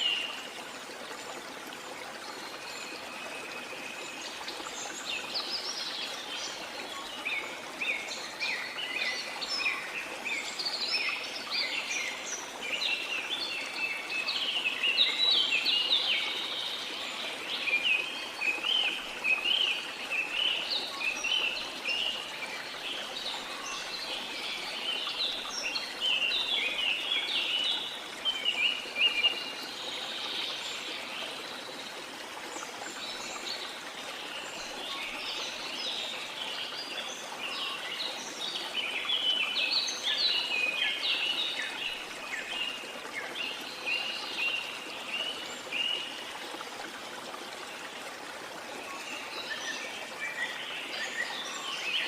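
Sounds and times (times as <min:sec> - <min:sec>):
flowing water hiss: 0:00.0 - 0:52.0.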